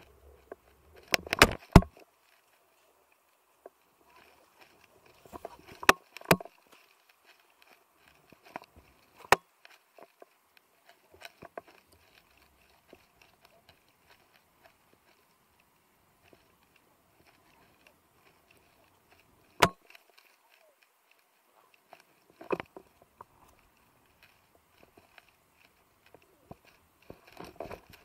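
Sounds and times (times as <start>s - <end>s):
light clicks from handling gear: 0.0s - 28.0s.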